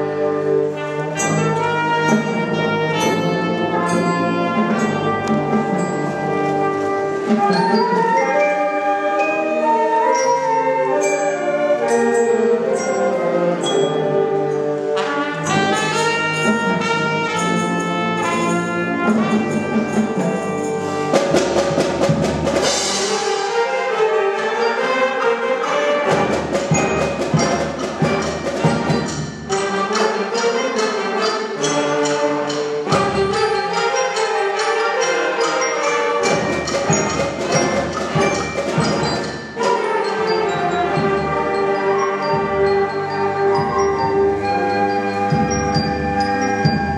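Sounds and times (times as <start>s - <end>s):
concert band playing: 0.0s - 46.9s
percussion strikes: 0.0s - 46.9s.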